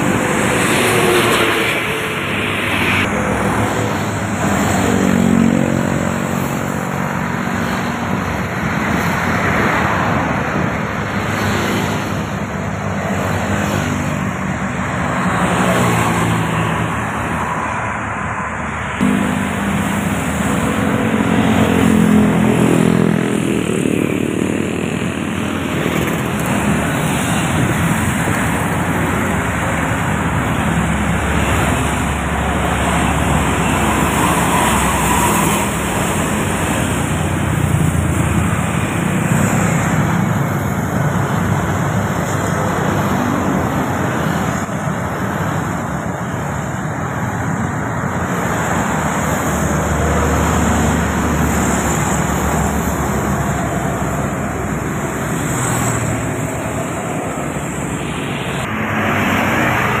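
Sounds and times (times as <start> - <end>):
heavy road traffic passing: 0.0 - 60.0.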